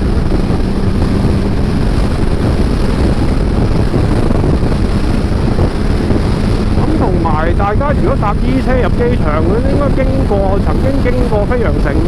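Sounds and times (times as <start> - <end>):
motorcycle engine drone: 0.0 - 12.0
wind rushing over microphone: 0.0 - 12.0.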